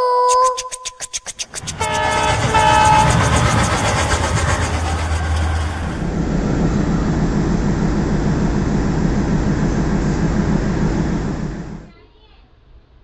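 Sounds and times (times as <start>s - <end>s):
diesel train rumbling: 1.4s - 11.9s.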